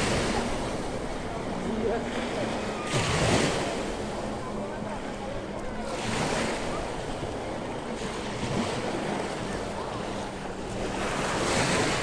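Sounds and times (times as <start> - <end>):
gentle waves washing in shallows: 0.0 - 12.0.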